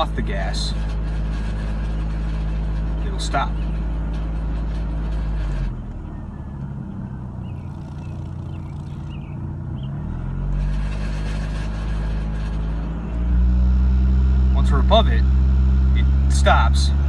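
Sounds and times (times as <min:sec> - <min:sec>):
car engine running: 0:00.0 - 0:17.0
engine malfunction noise: 0:00.0 - 0:17.0.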